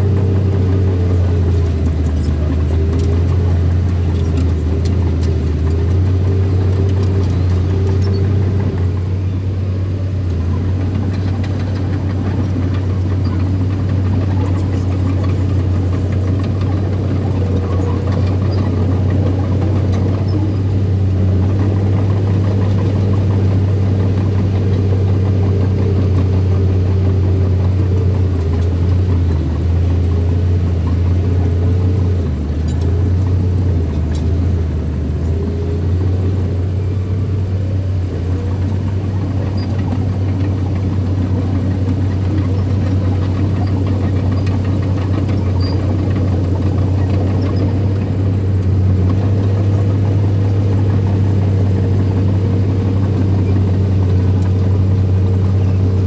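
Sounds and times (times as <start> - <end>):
heavy machinery engine humming: 0.0 - 56.0.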